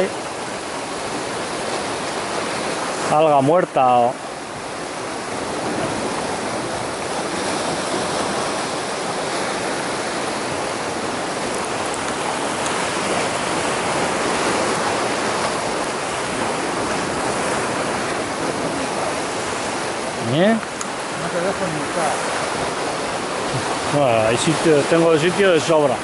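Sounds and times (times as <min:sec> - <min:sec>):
surf breaking over rocks: 0:00.0 - 0:26.0.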